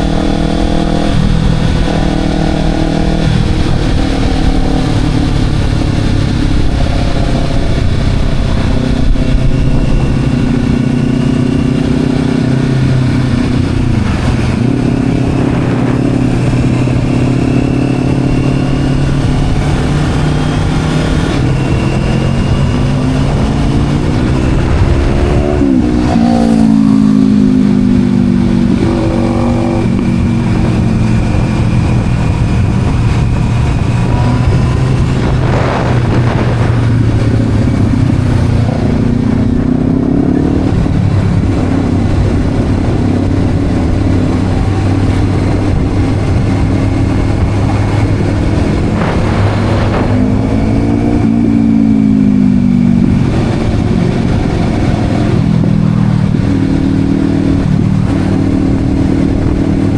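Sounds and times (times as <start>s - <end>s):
motorcycle engine running: 0.0s - 59.9s
road and wind rush: 0.0s - 59.9s.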